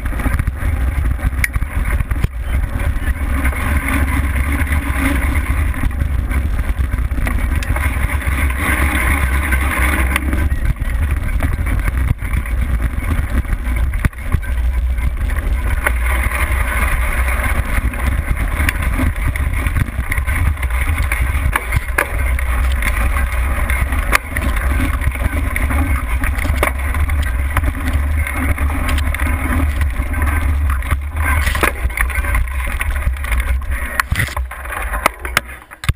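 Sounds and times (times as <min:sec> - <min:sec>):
bike knocks and rattles: 0:00.0 - 0:35.9
wind and frame rumble: 0:00.0 - 0:35.9.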